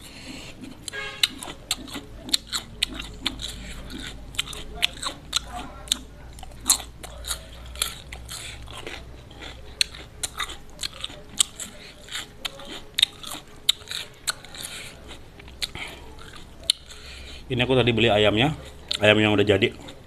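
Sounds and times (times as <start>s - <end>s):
wet mouth clicks: 0.0s - 17.4s
chewing crispy fried chicken: 0.0s - 20.0s.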